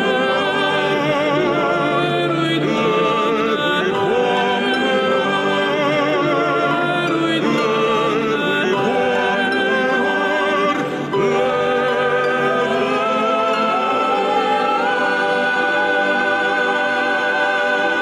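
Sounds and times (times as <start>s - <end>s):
harp accompaniment: 0.0s - 18.0s
male choir singing: 0.0s - 18.0s
male soloists singing operatically: 0.0s - 18.0s.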